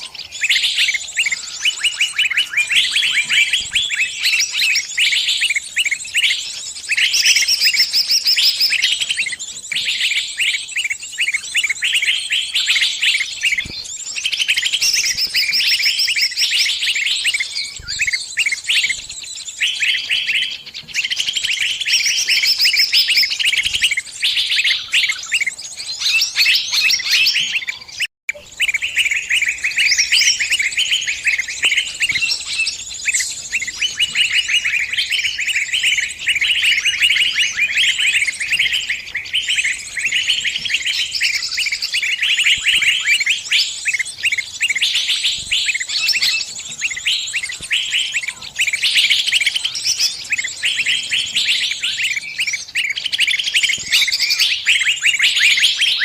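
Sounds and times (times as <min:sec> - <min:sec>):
small bird distress chirping: 0:00.0 - 0:56.0.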